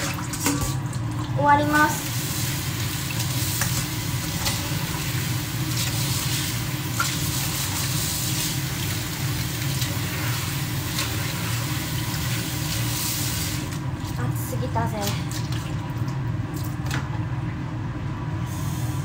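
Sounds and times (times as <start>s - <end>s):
water running from tap into sink: 0.0s - 16.2s.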